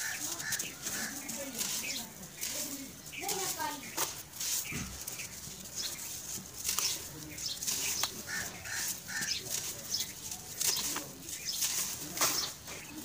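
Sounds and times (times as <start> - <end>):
gritty material crunching: 0.0 - 13.0
lump cracking: 0.0 - 13.0.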